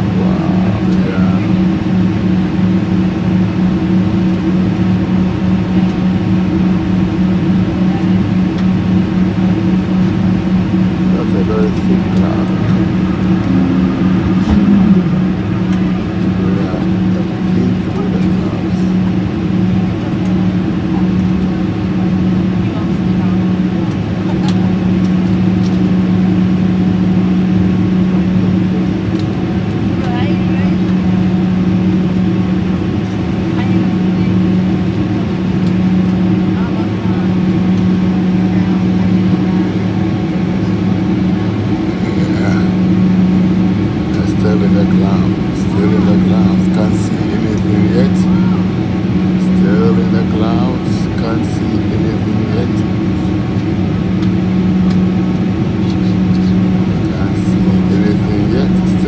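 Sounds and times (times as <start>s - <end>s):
constant low hum: 0.0s - 59.0s
jet airliner cabin drone: 0.0s - 59.0s.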